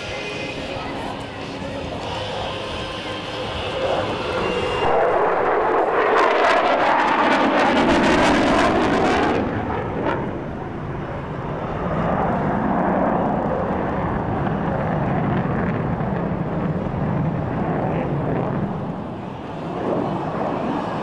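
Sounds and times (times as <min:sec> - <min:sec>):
fighter jet engine rumble: 0:00.0 - 0:21.0.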